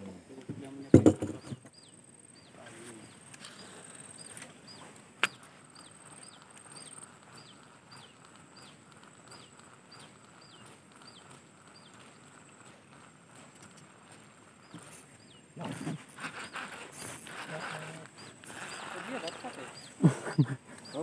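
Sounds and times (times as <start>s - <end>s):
bird calling: 0.6s - 21.0s.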